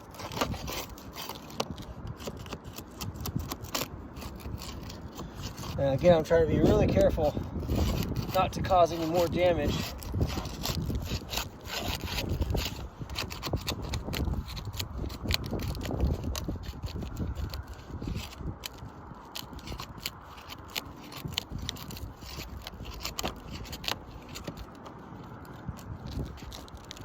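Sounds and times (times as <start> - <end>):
sharp clicks of shingles: 0.0 - 27.0
tool scraping under roof shingles: 0.0 - 27.0.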